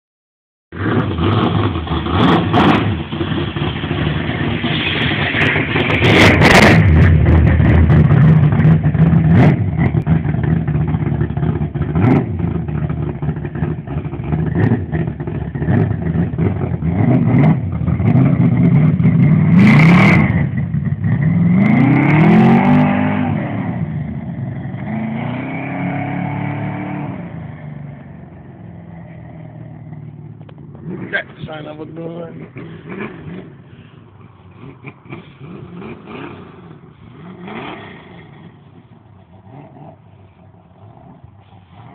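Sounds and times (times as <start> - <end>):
race car engine revving: 0.8 - 41.9.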